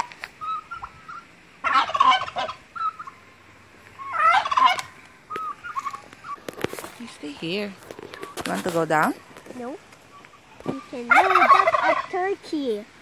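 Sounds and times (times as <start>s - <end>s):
turkey gobbling: 0.0s - 6.9s, 7.9s - 12.3s
turkey short calls: 0.0s - 6.9s, 8.1s - 12.2s.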